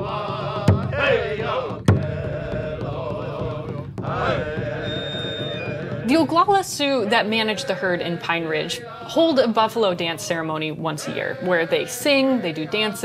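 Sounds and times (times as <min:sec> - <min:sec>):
drum strokes: 0:00.0 - 0:13.0
singers chanting: 0:00.0 - 0:13.0.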